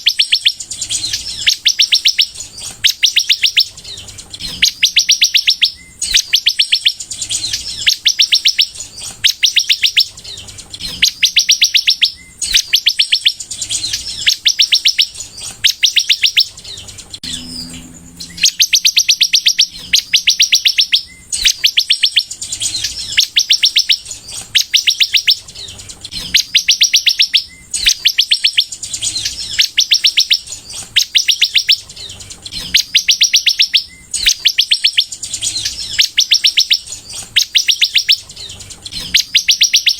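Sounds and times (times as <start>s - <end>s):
sunbird singing trilled phrases: 0.0s - 39.9s.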